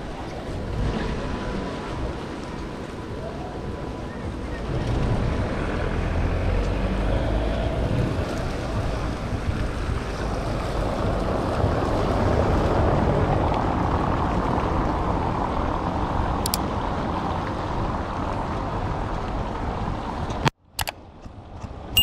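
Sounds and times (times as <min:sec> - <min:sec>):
wind buffeting microphone: 0:00.0 - 0:20.5
city street ambience: 0:00.0 - 0:22.0.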